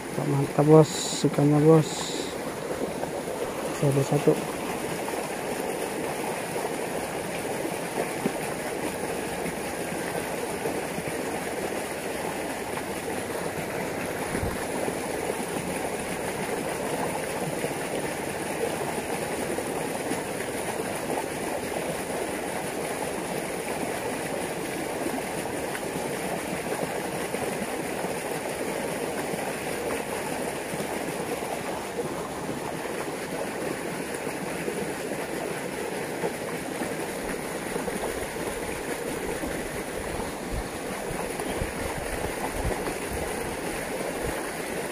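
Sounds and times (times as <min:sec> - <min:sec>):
water rushing through channel: 0:00.0 - 0:44.9.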